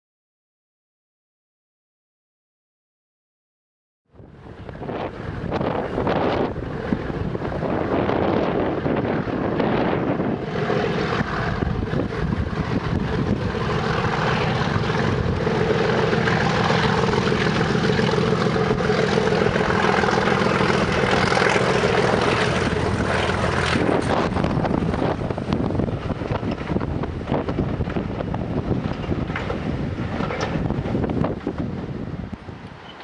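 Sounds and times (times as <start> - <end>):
diesel locomotive engine: 4.2 - 33.0.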